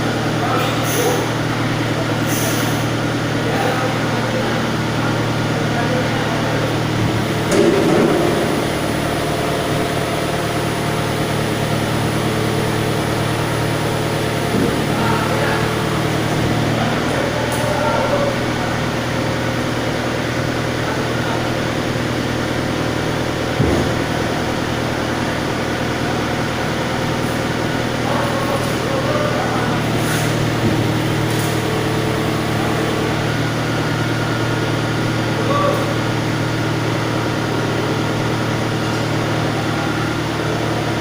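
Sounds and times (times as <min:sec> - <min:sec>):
heavy engine running: 0:00.0 - 0:41.0.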